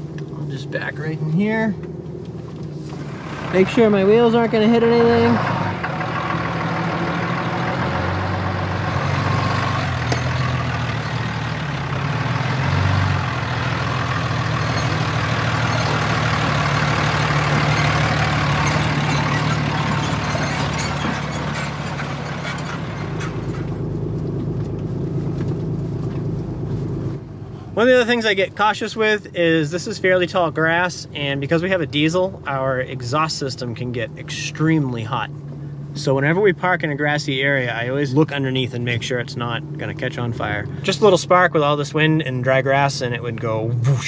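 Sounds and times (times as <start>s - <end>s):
diesel pickup engine running: 0.0s - 44.0s.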